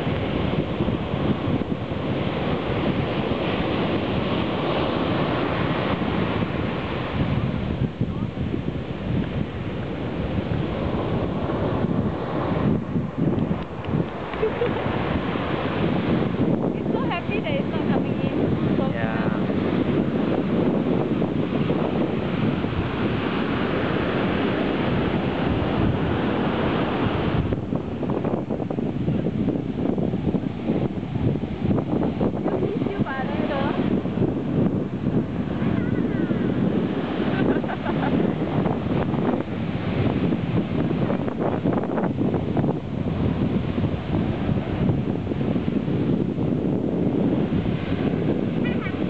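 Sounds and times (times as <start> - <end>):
ocean surf breaking: 0.0 - 49.0
wind buffeting microphone: 0.0 - 49.0.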